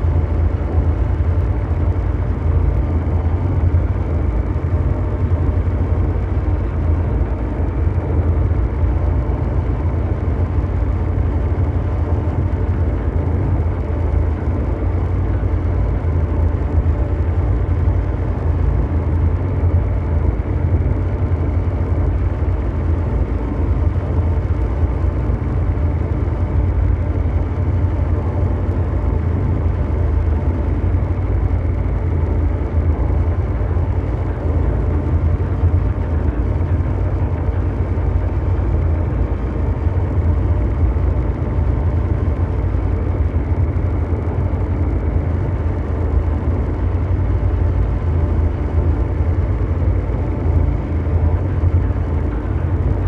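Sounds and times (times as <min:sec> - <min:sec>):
faint steady hum tones: 0:00.0 - 0:53.0
low mechanical rumble: 0:00.0 - 0:53.0.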